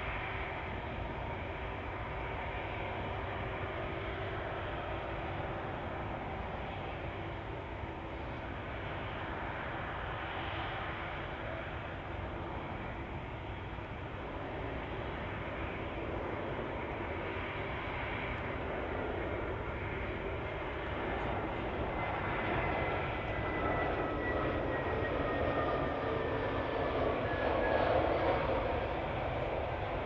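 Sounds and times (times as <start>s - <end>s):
jet engine rumble and whine: 0.0s - 30.0s.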